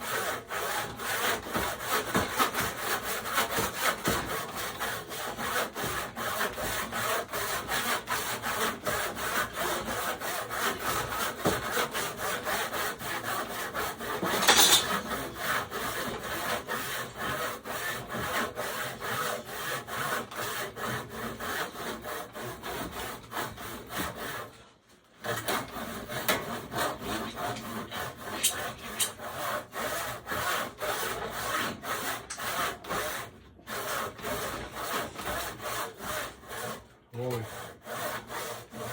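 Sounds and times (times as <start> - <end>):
handsaw cutting wood: 0.0 - 38.9.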